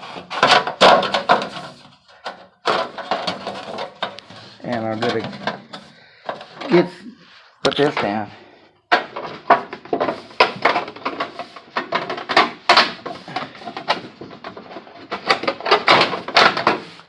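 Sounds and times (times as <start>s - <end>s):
clattering knocks and rattles: 0.0s - 7.0s, 7.7s - 17.0s.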